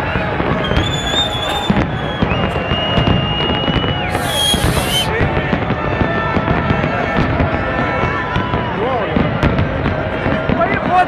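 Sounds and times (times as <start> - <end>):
crowd voices: 0.0 - 11.0
fireworks bangs and crackles: 0.0 - 11.0
high whistling fireworks: 0.0 - 11.0.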